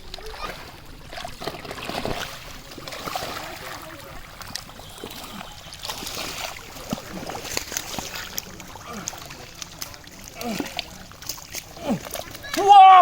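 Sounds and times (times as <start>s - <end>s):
small sharp splashes: 0.0s - 13.0s
water sloshing and splashing: 0.0s - 13.0s.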